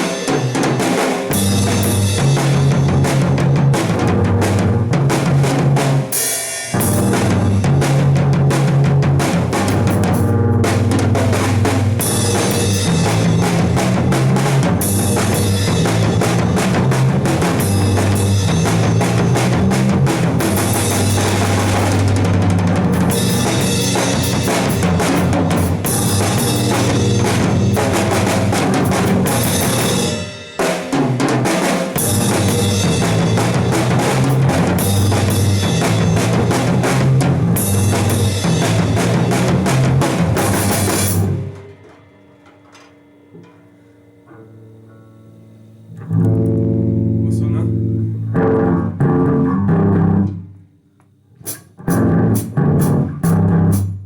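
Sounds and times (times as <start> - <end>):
drum kit music: 0.0 - 50.5, 51.4 - 54.0
low bass notes: 1.3 - 6.0, 6.8 - 30.1, 32.0 - 41.6, 45.8 - 50.6, 51.8 - 54.0.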